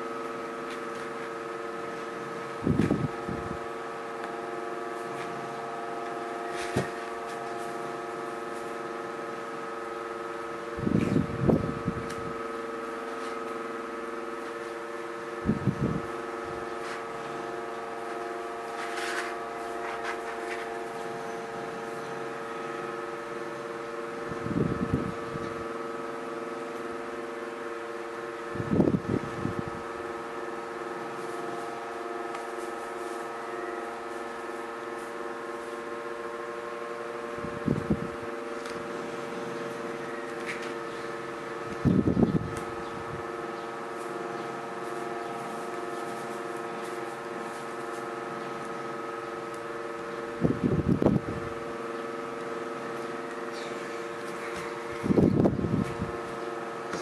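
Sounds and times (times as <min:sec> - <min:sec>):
steady electric hum: 0:00.0 - 0:57.0.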